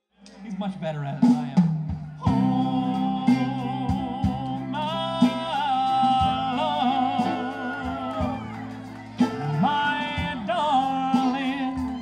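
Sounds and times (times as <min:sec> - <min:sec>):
drum kit: 0:00.3 - 0:12.0
man singing with vibrato: 0:02.1 - 0:12.0
electric guitar: 0:02.2 - 0:12.0.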